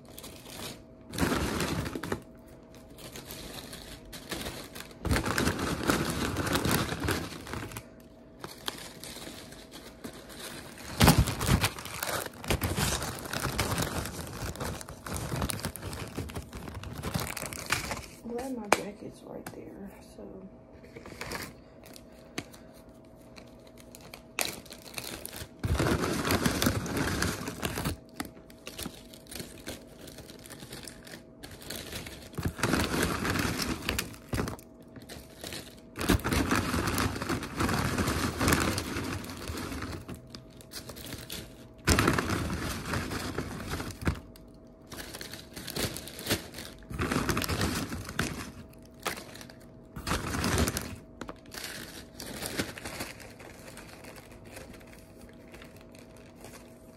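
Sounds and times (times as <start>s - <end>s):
rustling and crinkling: 0.0s - 19.8s, 20.7s - 56.9s.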